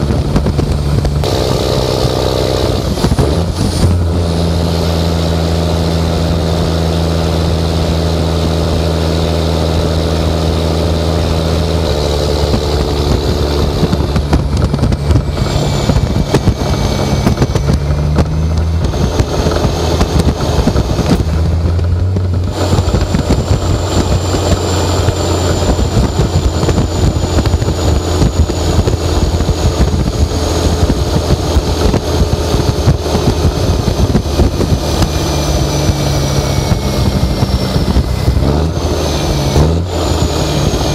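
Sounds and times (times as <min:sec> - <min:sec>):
diesel truck engine: 0:00.0 - 0:40.9
high whine falling in pitch: 0:00.1 - 0:40.9.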